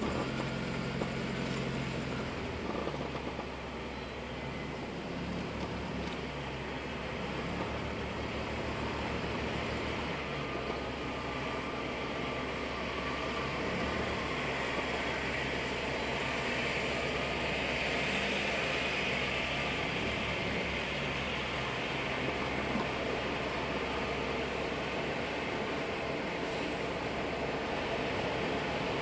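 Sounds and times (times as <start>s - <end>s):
car engine running low: 0.0s - 29.0s
in-cabin road hiss: 0.0s - 29.0s.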